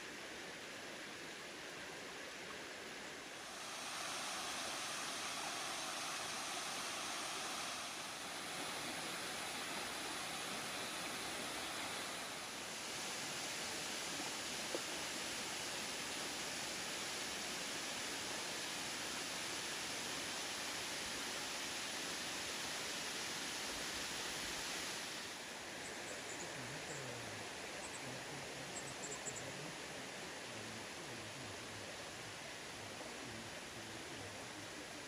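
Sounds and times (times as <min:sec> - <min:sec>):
rocky creek flowing: 0:00.0 - 0:35.0
waterfall hissing: 0:00.0 - 0:35.0.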